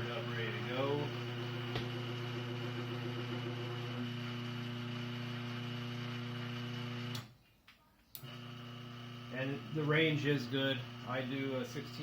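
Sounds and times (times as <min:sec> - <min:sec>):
electrical mains hum: 0:00.0 - 0:07.3, 0:08.1 - 0:12.0.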